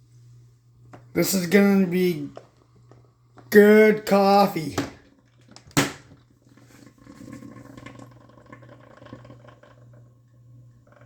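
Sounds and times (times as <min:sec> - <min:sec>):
coffee maker brewing and bubbling: 0:00.0 - 0:11.0.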